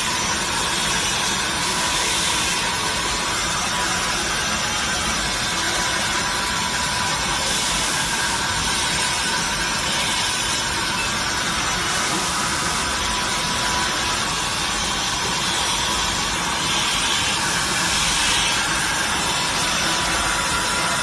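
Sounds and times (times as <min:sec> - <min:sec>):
machine hiss and whir: 0:00.0 - 0:21.0.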